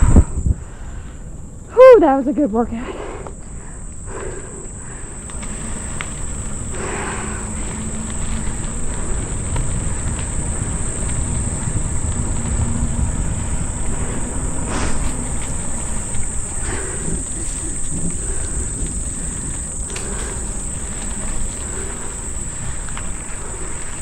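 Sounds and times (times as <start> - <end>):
insects droning: 0.0 - 24.0
low rumble: 2.8 - 24.0.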